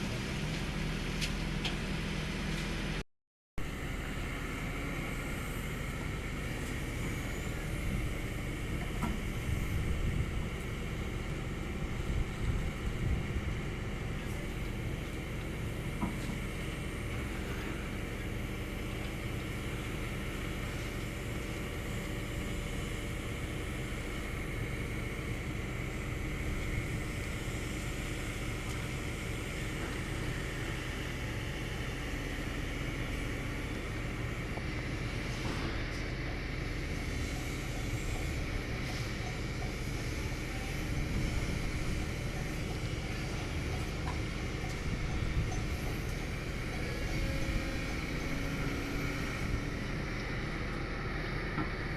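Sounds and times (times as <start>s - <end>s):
diesel engine droning: 3.6s - 51.9s.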